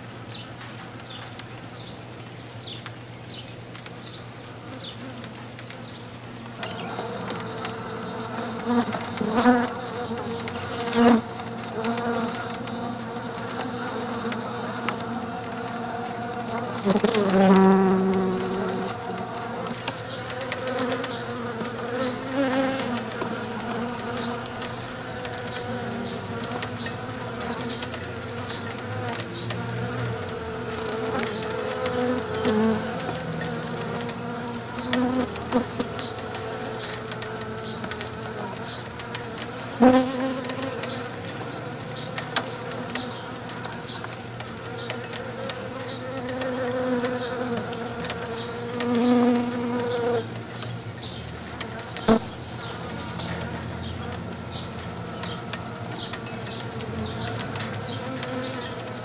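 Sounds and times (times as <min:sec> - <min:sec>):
bees buzzing: 0:04.6 - 0:59.0.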